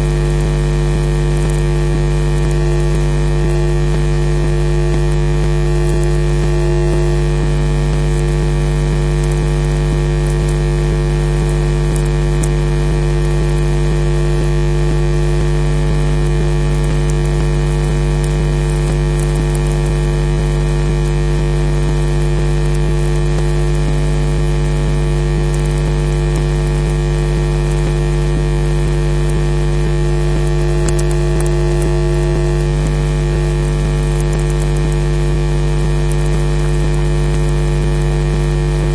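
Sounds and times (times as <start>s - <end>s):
electrical mains hum: 0.0s - 38.9s
faint crackles: 0.1s - 38.9s.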